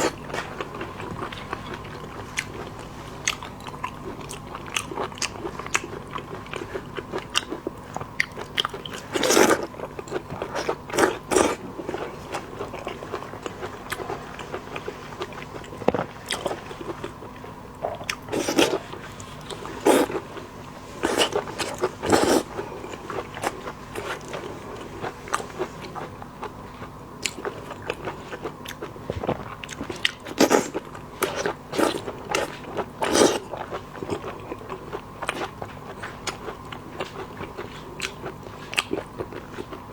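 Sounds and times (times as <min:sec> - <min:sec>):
person chewing seafood: 0:00.0 - 0:39.9.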